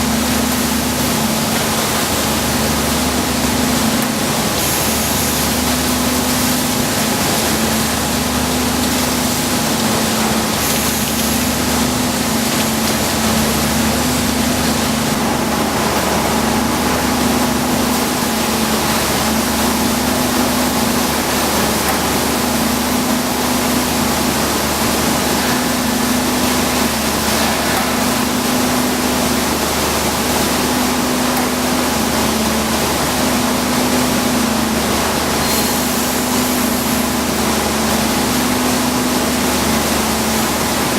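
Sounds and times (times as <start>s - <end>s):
harvesting machine running: 0.0s - 40.9s.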